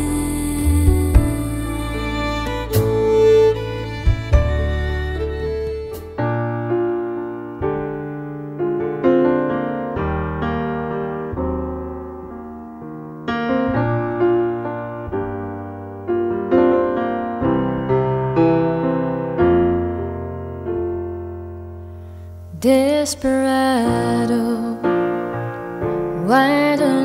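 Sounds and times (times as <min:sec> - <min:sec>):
slow gentle piano music: 0:00.0 - 0:27.0.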